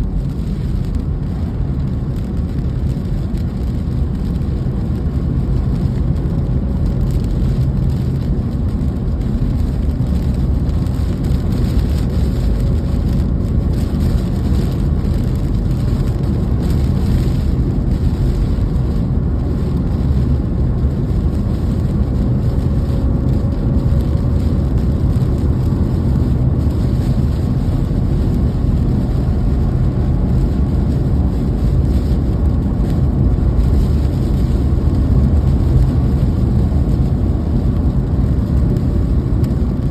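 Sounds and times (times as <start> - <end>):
loud low rumble: 0.0 - 39.9
steady rain: 0.0 - 39.9.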